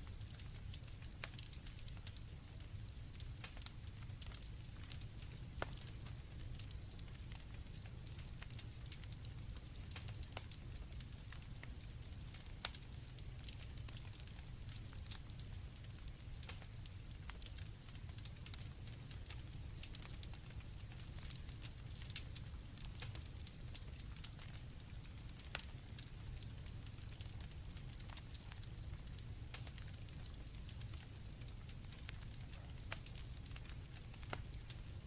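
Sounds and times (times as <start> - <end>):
campfire crackling and popping: 0.0 - 35.0
crickets trilling: 0.0 - 35.0
low rumble of flames: 0.0 - 35.0.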